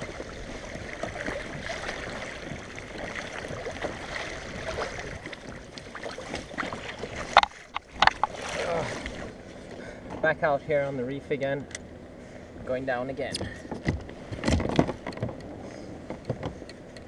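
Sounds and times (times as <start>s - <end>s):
water lapping against kayak: 0.0s - 11.0s, 12.0s - 17.0s.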